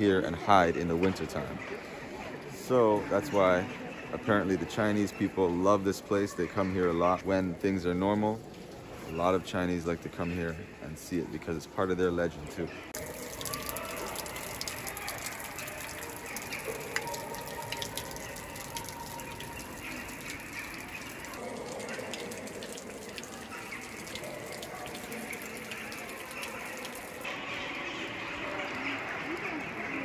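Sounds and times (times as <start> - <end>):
water trickling in a cave: 0.0 - 30.0.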